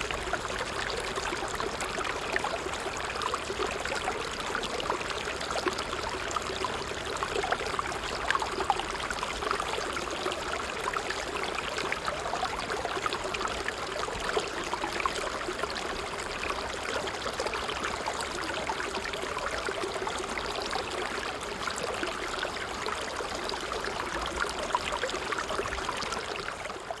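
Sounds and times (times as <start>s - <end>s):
water trickling: 0.0s - 27.0s.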